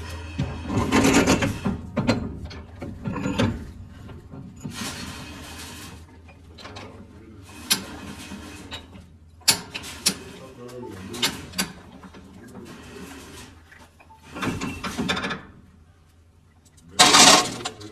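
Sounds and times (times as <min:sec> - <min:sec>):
metal clanks and rattles: 0:00.0 - 0:15.8, 0:16.6 - 0:17.9.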